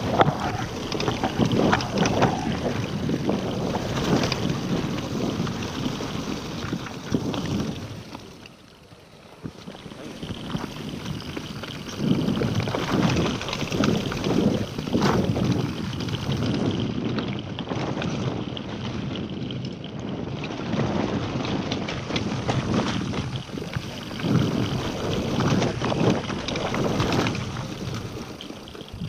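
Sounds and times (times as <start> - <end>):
wind buffeting microphone: 0.0 - 8.4, 9.4 - 29.0
bike rattling on bumps: 0.0 - 29.0
bike tyres rumbling on dirt: 0.0 - 29.0.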